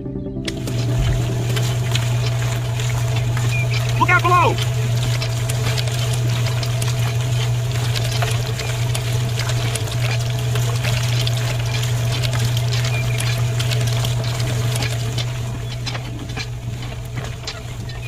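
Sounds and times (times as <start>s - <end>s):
liquid pouring and trickling: 0.5s - 18.0s
small electric motor humming: 0.5s - 18.0s.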